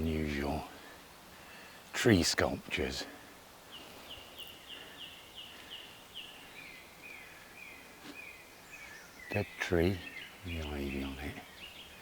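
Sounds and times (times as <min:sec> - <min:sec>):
songbird singing: 0:00.0 - 0:12.0
woodland background hiss: 0:00.0 - 0:12.0.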